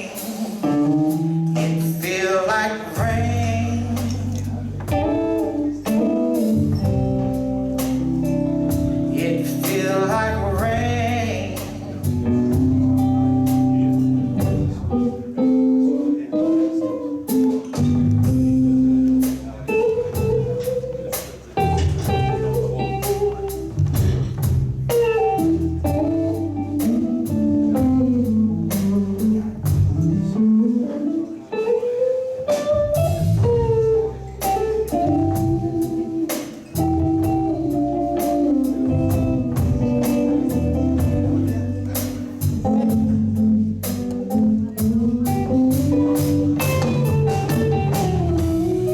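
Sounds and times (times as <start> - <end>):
bass guitar: 0.0 - 48.9
drum kit: 0.0 - 48.9
electric guitar lead: 0.0 - 48.9.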